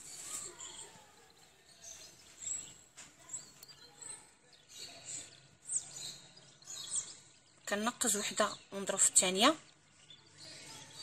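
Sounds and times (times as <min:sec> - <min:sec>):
faint high bird chirps: 0:00.0 - 0:11.0.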